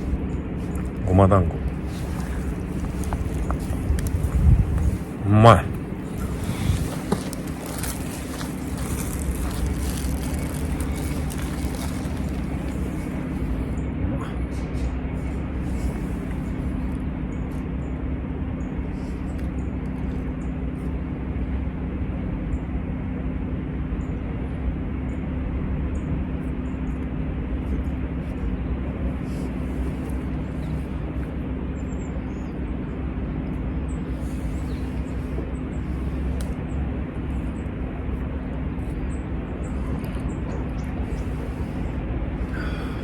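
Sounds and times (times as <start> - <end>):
low constant hum: 0.0 - 43.0.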